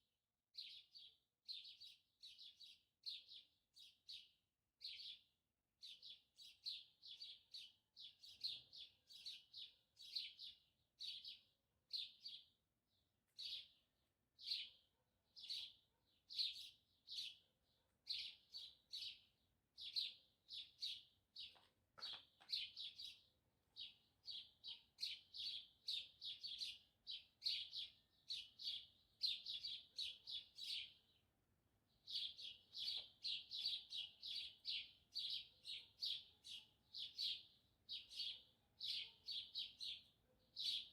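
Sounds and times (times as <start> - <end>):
small bird chirping: 0.6 - 40.9.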